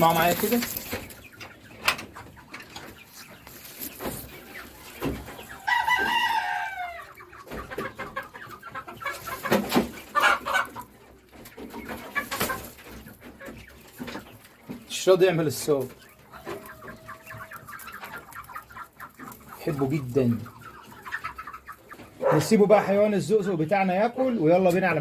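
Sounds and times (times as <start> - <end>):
fowl clucking: 0.0 - 23.7.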